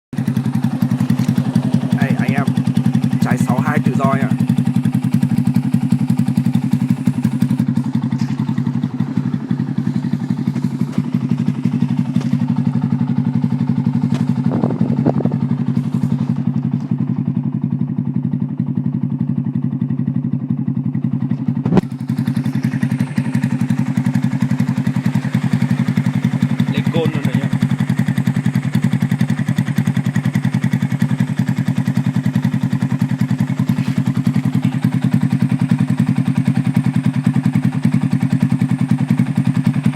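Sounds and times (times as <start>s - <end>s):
motorcycle engine idling: 0.2s - 39.9s.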